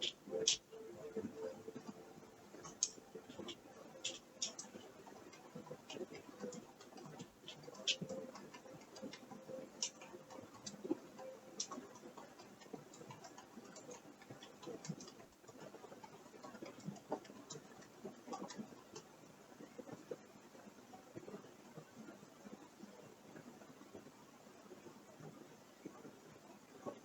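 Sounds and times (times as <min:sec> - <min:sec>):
faint clicks and ticks: 0:00.0 - 0:27.0
faint steady hum: 0:00.0 - 0:27.0.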